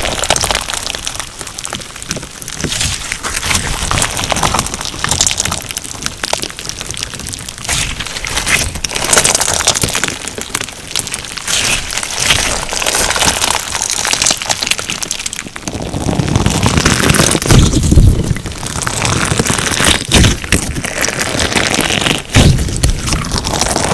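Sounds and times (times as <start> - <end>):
crunchy slime crackling: 0.0 - 23.9
deep slime squishing: 0.0 - 23.9.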